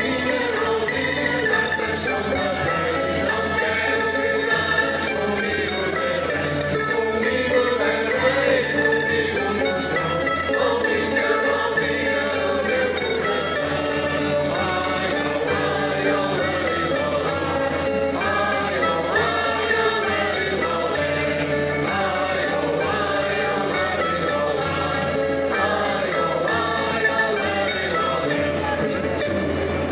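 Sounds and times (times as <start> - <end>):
group singing in chorus: 0.0 - 29.9
jingling percussion: 0.0 - 29.9
strummed guitars: 0.0 - 29.9.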